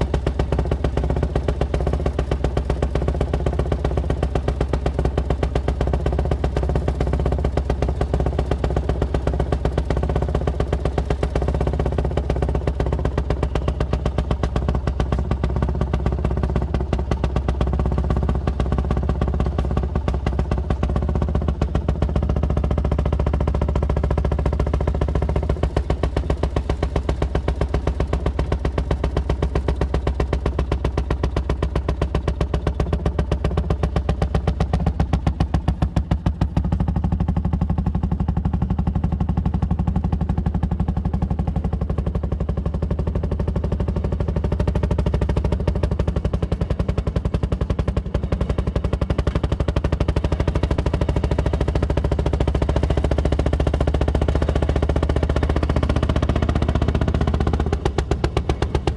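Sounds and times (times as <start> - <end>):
small engine popping exhaust: 0.0 - 58.9.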